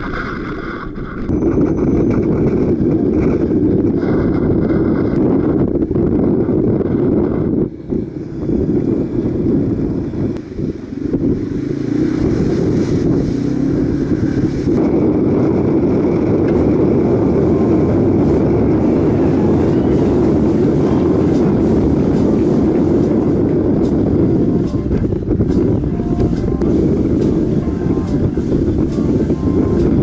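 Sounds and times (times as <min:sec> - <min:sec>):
wind buffeting microphone: 0:00.0 - 0:30.0
motorcycle engine running: 0:01.2 - 0:30.0.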